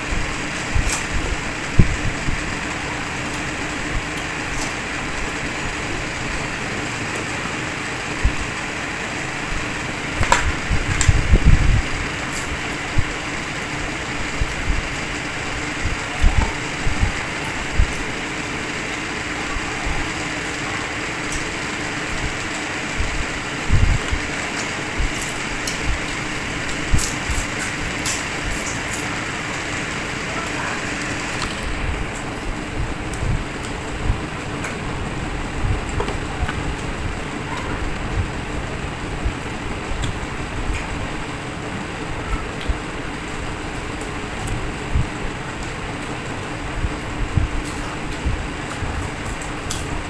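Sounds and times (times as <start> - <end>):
fan-like whooshing: 0.0 - 50.0.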